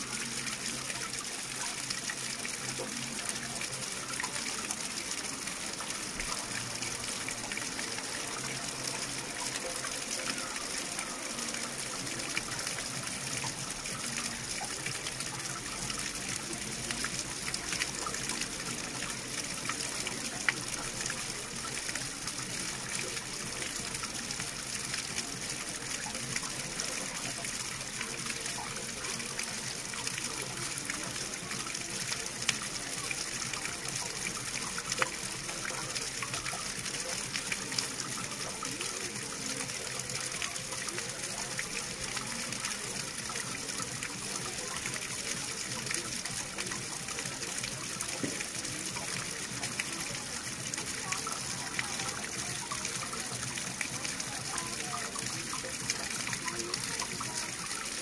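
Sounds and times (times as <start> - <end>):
water flowing: 0.0 - 58.0.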